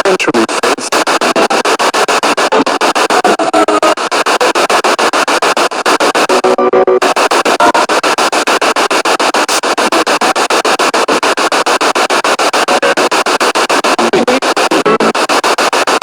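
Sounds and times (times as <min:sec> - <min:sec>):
choppy radio static: 0:00.0 - 0:16.0.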